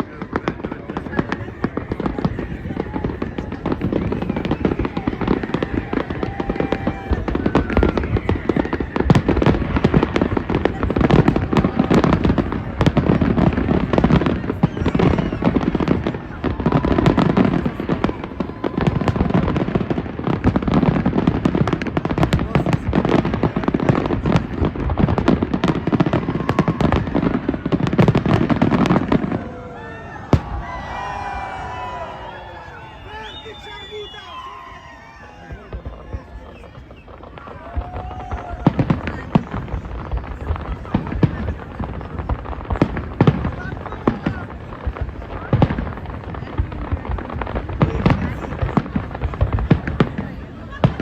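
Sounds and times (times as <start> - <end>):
fireworks bangs and crackles: 0.0 - 51.0
whistling fireworks: 0.0 - 51.0.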